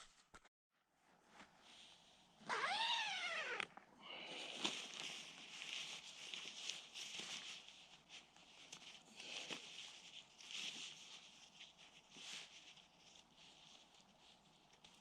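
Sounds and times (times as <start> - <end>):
faint rustling with crackles: 1.0 - 15.0.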